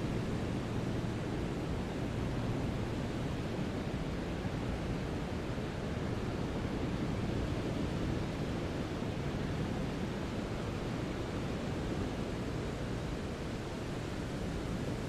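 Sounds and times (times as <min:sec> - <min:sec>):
brown noise hiss: 0:00.0 - 0:15.0.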